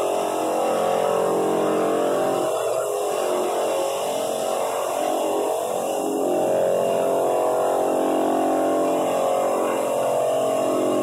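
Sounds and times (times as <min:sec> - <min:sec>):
floor drum sander running: 0:00.0 - 0:11.0
shop vacuum running: 0:00.0 - 0:11.0.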